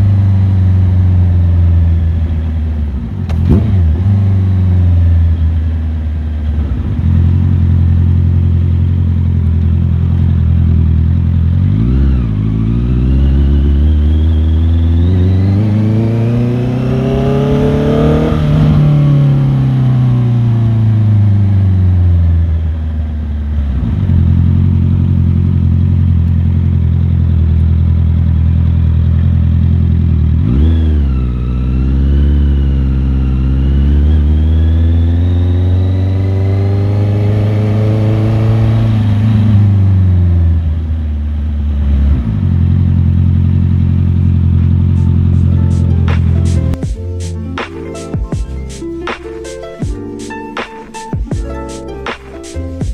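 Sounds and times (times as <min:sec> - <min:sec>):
motorcycle engine running: 0:00.0 - 0:50.2, 0:51.1 - 0:52.9.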